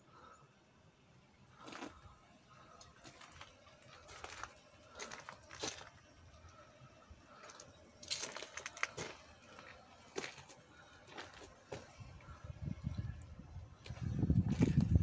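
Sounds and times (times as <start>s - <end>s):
faint crunching and rustling: 1.5s - 15.0s.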